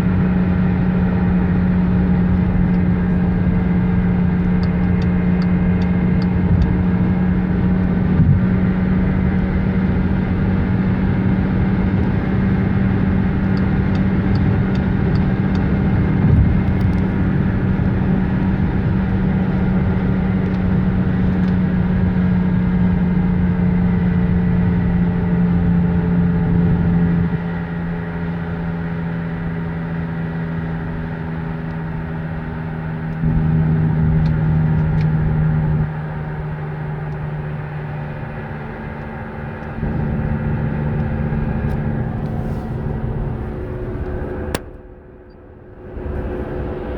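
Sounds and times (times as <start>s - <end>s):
car drone low hum: 0.0s - 46.9s
road noise: 0.0s - 46.9s.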